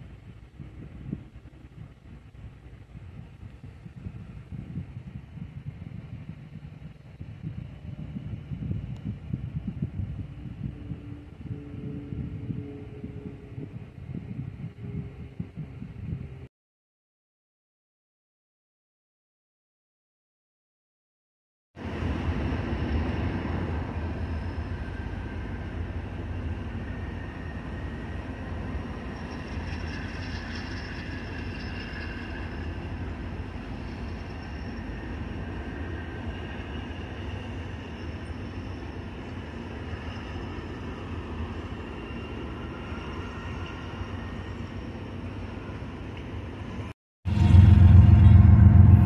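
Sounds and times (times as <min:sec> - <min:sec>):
train wheels rumbling on rail: 0:00.0 - 0:16.5, 0:21.8 - 0:49.0.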